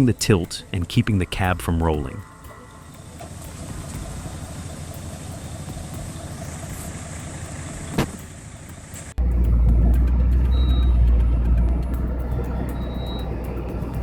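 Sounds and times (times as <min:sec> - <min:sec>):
deep engine rumble: 0:00.0 - 0:14.0
truck engine running: 0:00.0 - 0:14.0.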